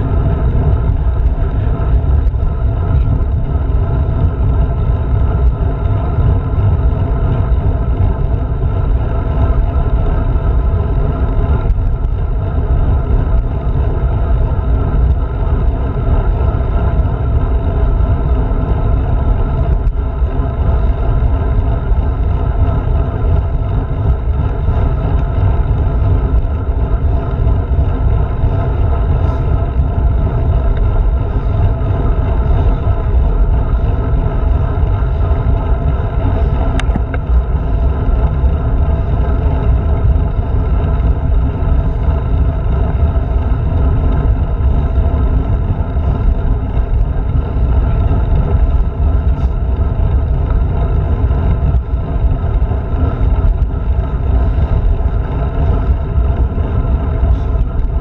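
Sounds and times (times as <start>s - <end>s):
road vibration: 0.0s - 58.0s
wind buffeting camera: 0.0s - 58.0s.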